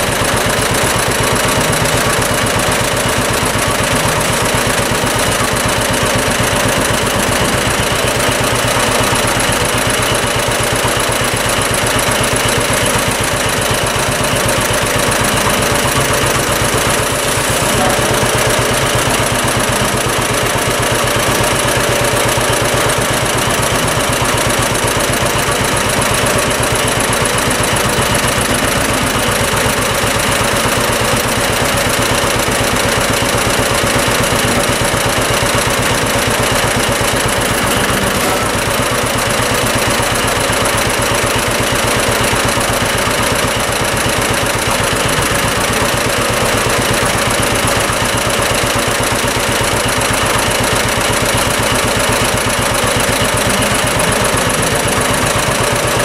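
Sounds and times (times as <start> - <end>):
tractor engine popping: 0.0 - 56.0.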